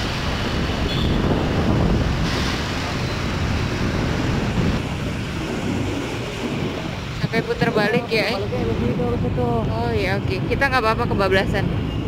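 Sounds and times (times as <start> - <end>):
road and traffic noise: 0.0 - 12.0
wind rumble on microphone: 0.0 - 12.0.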